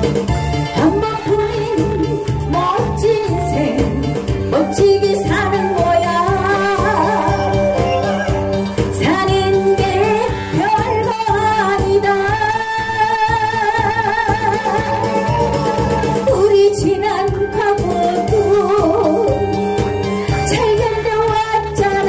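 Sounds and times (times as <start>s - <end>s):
karaoke backing track: 0.0s - 22.0s
woman singing into a microphone: 0.2s - 22.0s.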